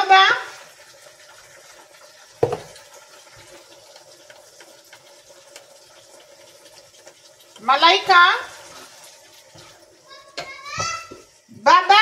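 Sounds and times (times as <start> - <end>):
spatula stirring meat in frying pan: 0.0 - 12.0.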